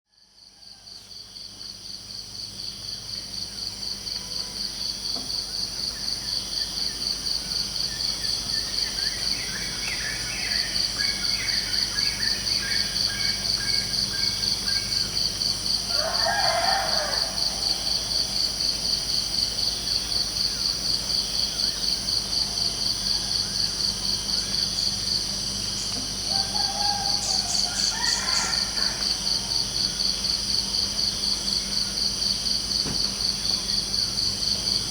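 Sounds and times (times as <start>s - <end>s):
crickets chirping: 0.2s - 34.9s.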